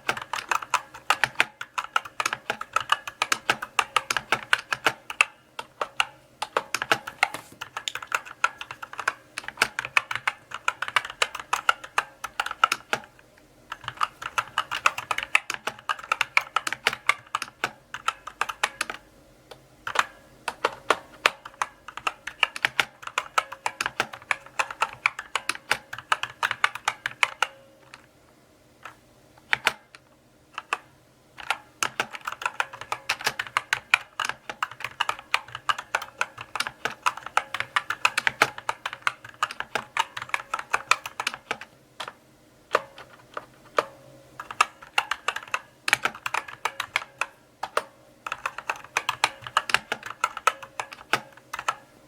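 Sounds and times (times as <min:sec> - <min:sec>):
mechanical keyboard typing: 0:00.0 - 0:19.1, 0:19.8 - 0:28.1, 0:28.8 - 0:30.0, 0:30.6 - 0:51.9.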